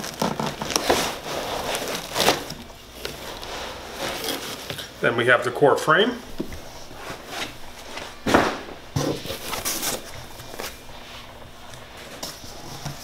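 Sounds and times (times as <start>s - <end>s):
foam packing rustling: 0.0s - 5.0s, 6.3s - 13.0s.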